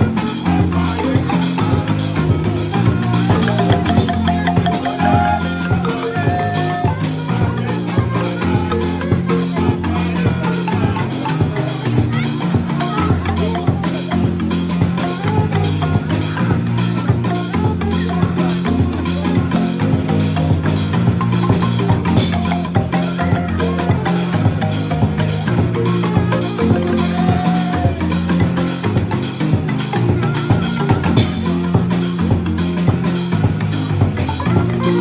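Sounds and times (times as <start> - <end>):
drums: 0.0 - 35.0
marimba band playing: 0.0 - 35.0.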